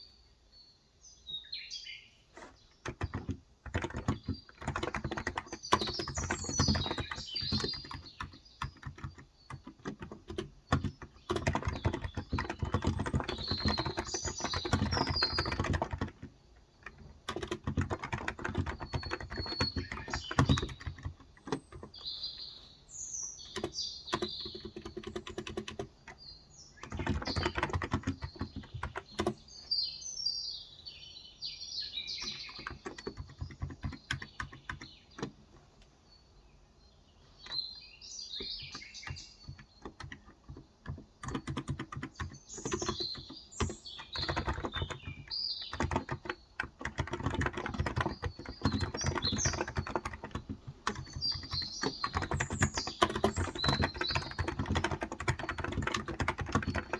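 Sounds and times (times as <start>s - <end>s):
small birds chirping: 0.0s - 56.9s
keyboard typing: 2.4s - 22.7s, 23.4s - 26.2s, 26.8s - 29.6s, 32.1s - 35.6s, 38.4s - 56.9s.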